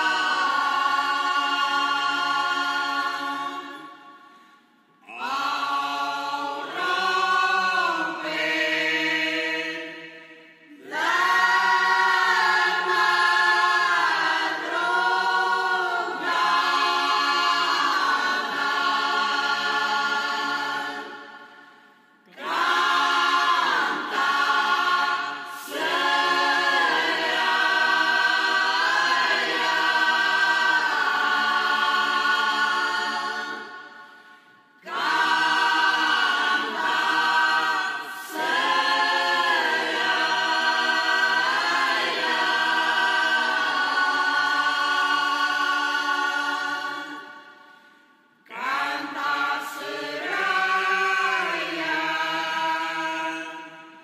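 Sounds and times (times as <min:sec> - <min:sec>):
group singing unaccompanied: 0:00.0 - 0:54.0.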